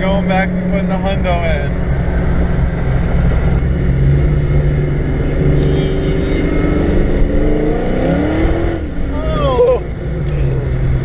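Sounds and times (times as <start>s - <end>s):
car engine running while driving: 0.0s - 11.0s.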